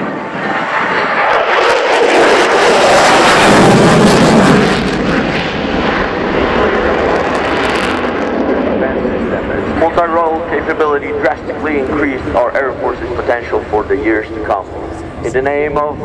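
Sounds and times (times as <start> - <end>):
jet fighter passing overhead: 0.0 - 16.0.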